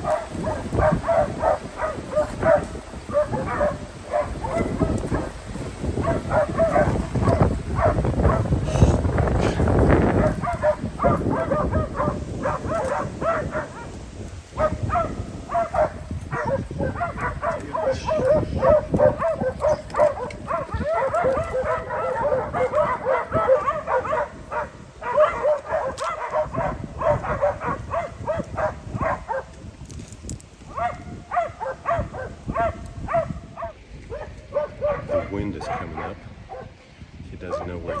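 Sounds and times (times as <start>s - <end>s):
dogs barking: 0.0s - 29.7s, 30.7s - 38.0s.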